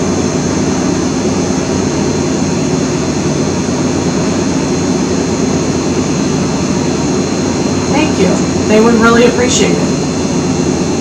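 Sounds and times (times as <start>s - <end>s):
faint high whines: 0.0s - 11.0s
steady droning noise with hiss: 0.0s - 11.0s.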